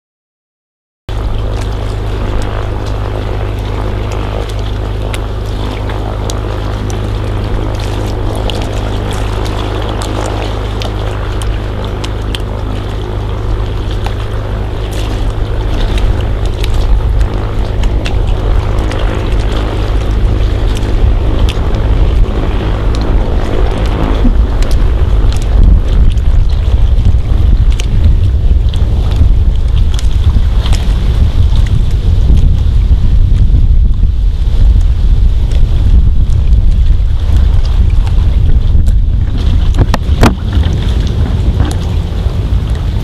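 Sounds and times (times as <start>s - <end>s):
floatplane engine and propeller: 1.1s - 43.0s.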